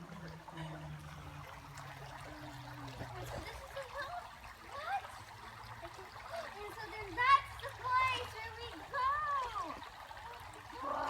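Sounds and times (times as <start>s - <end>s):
stream trickling and gurgling: 0.0s - 11.0s.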